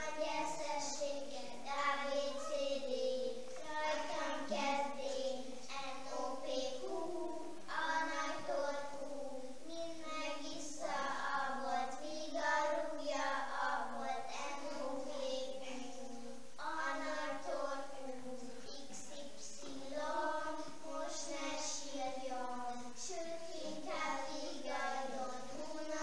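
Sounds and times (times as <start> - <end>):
young children singing: 0.0 - 26.0.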